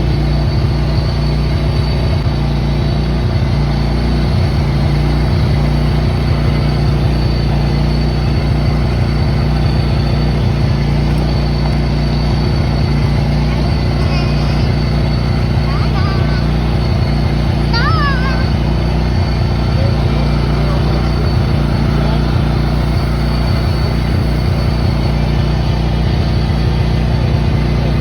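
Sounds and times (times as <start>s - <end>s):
heavy machinery engine running: 0.0s - 28.0s.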